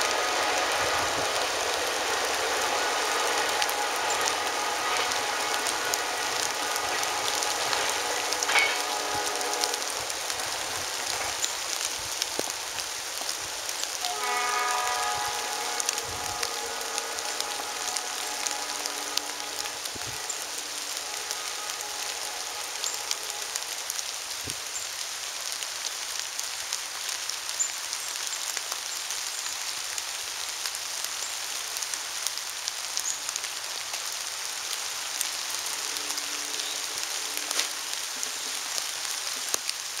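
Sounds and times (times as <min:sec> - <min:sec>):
rain falling: 0:00.0 - 0:40.0
raindrops ticking: 0:00.0 - 0:40.0.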